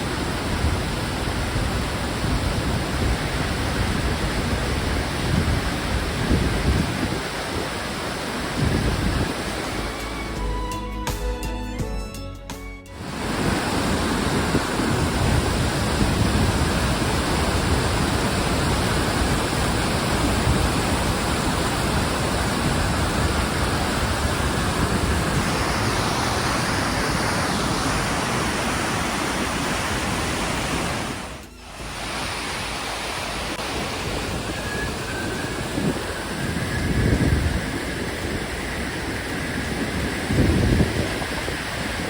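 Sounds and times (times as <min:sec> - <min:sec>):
waterfall roaring: 0:00.0 - 0:10.0, 0:13.0 - 0:42.0.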